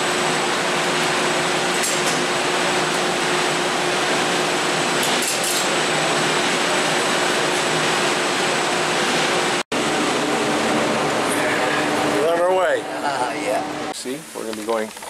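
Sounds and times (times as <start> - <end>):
machinery running: 0.0 - 14.6.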